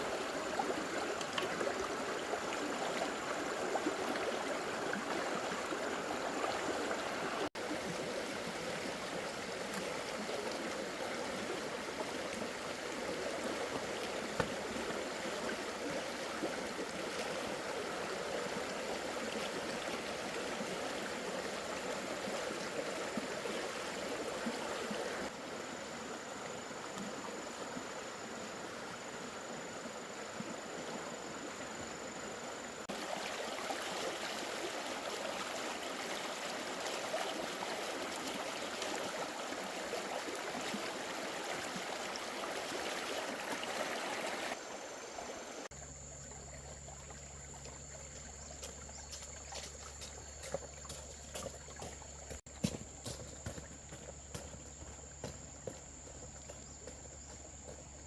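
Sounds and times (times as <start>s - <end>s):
water rushing: 0.0s - 27.9s, 30.4s - 57.8s.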